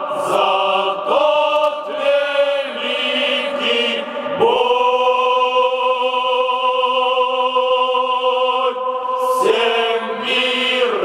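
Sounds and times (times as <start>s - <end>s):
men's choir singing: 0.0s - 11.0s.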